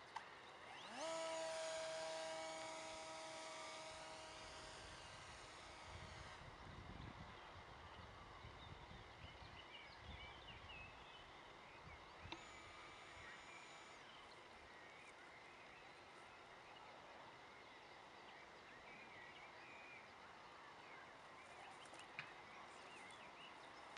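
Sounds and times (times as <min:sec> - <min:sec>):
faint birdsong chirping: 0:00.0 - 0:23.9.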